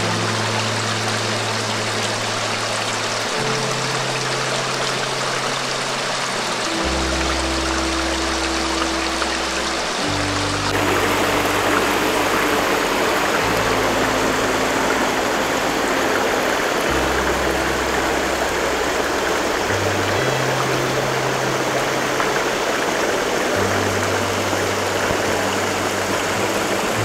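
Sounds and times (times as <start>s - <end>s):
soft background music: 0.0s - 27.0s
stream rushing over stones: 0.0s - 27.0s.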